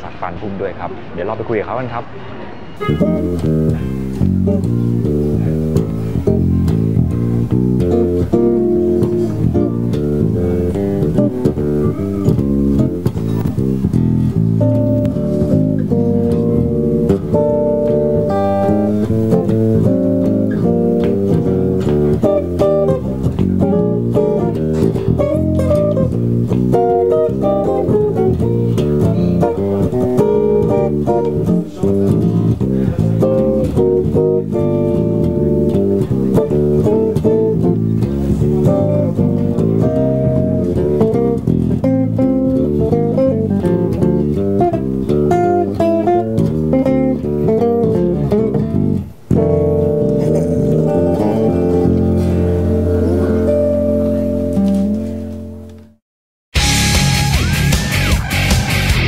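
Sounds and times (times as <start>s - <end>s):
electric bass line: 2.8s - 56.0s, 56.6s - 59.0s
electric guitar picking: 2.8s - 56.0s, 56.6s - 59.0s.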